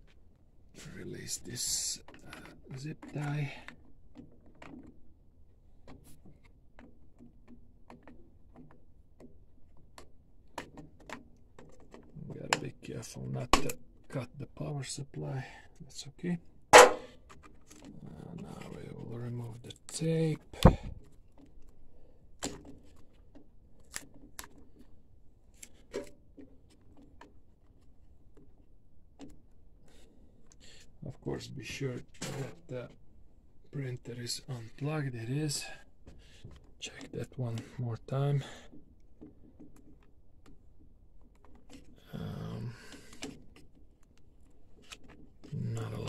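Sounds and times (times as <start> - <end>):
faint clicks of plastic parts: 0.0 - 46.0.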